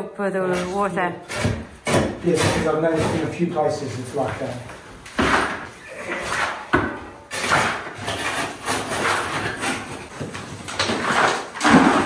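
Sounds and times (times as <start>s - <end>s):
trowels scraping cement: 0.4s - 12.0s.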